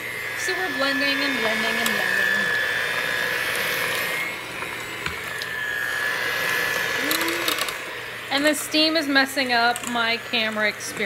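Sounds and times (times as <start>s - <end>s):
immersion blender whining: 0.0s - 11.0s.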